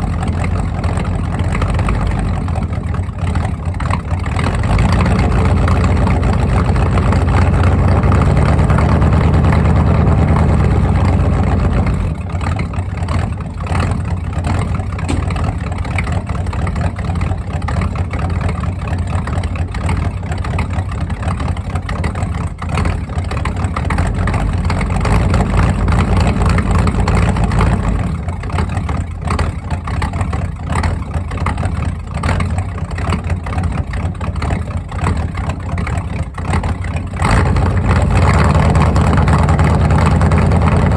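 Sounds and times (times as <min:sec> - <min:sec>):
engine idling at the exhaust: 0:00.0 - 0:40.9.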